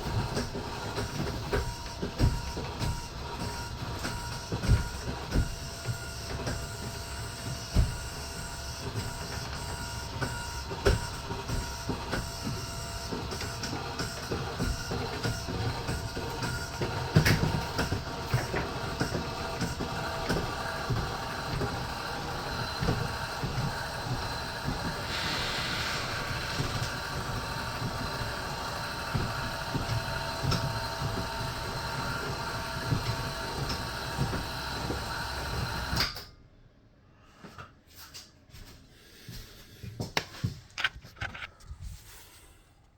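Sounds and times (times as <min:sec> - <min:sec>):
leveling jack motor whine: 0:00.0 - 0:36.2.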